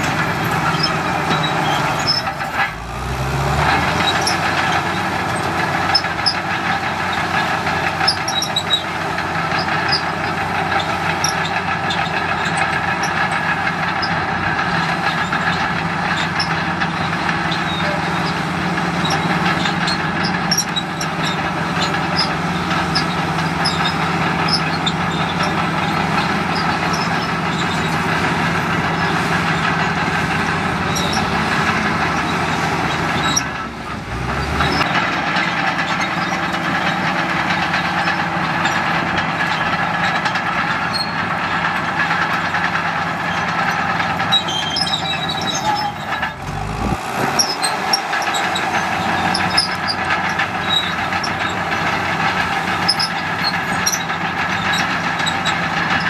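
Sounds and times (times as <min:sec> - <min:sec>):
bulldozer diesel engine under load: 0:00.0 - 0:56.0
steel tracks clanking: 0:00.0 - 0:56.0.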